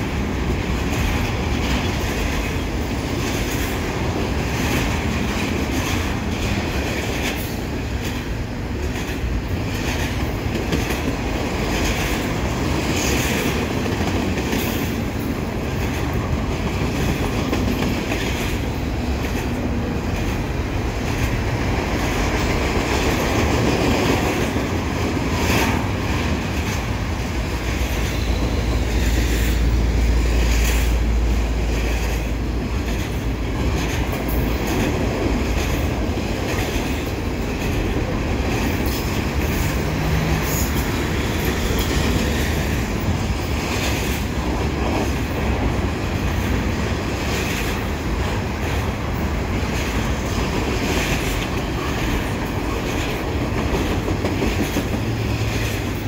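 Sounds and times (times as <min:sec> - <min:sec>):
freight train rumble: 0:00.0 - 0:56.0
train wheels clacking on rail joints: 0:00.0 - 0:56.0.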